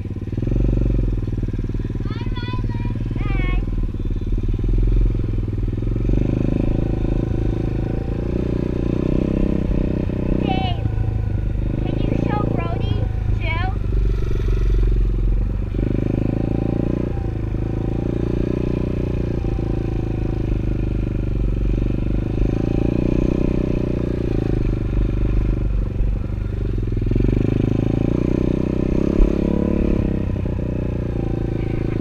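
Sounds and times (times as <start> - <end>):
small motorbike engine revving: 0.0 - 32.0.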